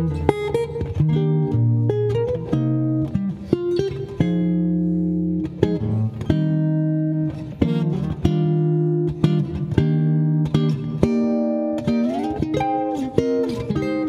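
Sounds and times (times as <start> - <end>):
fingerstyle jazz guitar chords: 0.0 - 14.0.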